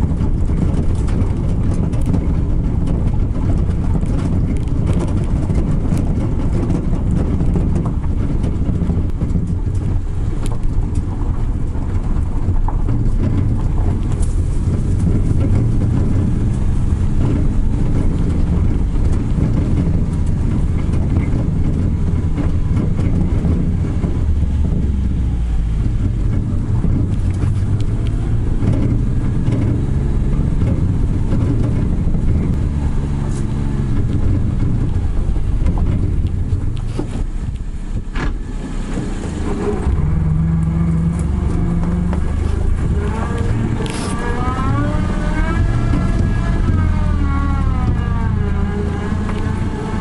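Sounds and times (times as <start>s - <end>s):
cargo rattling and knocking: 0.0s - 50.0s
small vehicle engine running: 0.0s - 50.0s.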